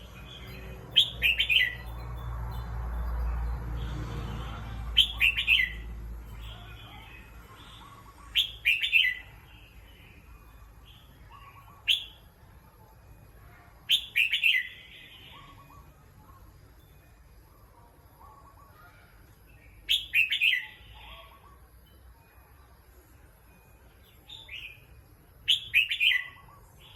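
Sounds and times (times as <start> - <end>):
faint bird chirps: 4.4 - 26.9.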